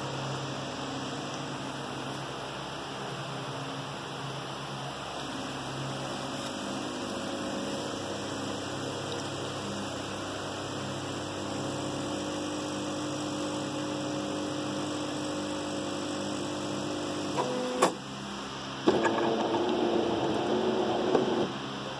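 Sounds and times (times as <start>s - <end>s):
coffee machine humming: 0.0s - 21.9s.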